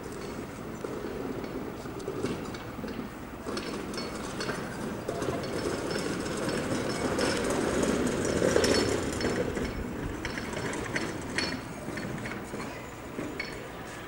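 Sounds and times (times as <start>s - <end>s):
diesel locomotive engines rumbling: 0.0s - 14.0s.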